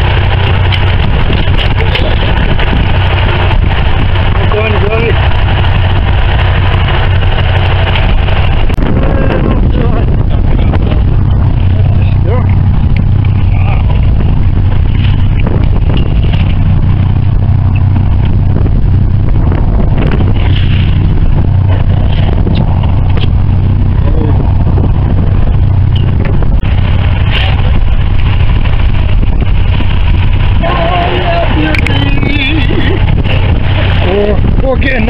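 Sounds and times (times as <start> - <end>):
boat engine humming: 0.0 - 35.0
sea noise: 0.0 - 35.0
wind: 0.0 - 35.0.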